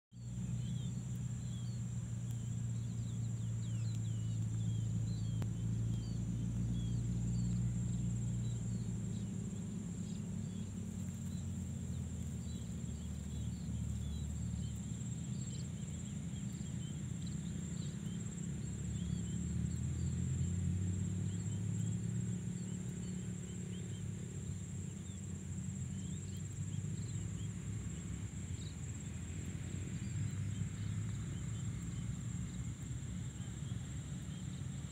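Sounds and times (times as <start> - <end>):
insects droning: 0.1 - 34.9
low wavering rumble: 0.2 - 34.9.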